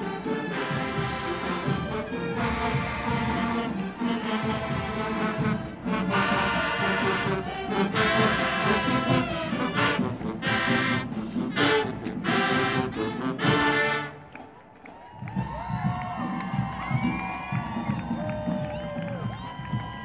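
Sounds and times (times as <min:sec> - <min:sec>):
marching band brass chords: 0:00.0 - 0:20.0
drums with sharp percussion hits: 0:00.2 - 0:20.0.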